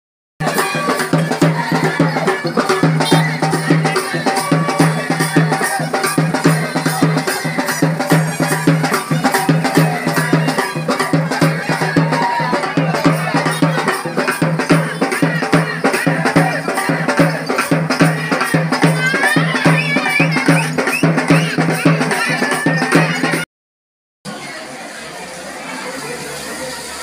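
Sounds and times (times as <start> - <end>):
fast festival drumming: 0.4 - 23.4
crowd voices: 0.4 - 23.5, 24.3 - 27.0.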